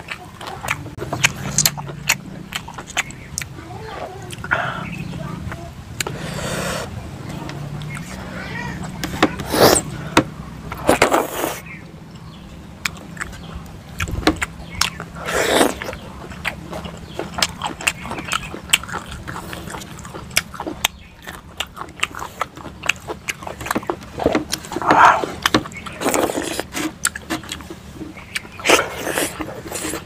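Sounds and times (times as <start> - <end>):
person chewing with lip-smacking: 0.0 - 6.9, 7.7 - 30.0
steady low hum: 0.0 - 30.0.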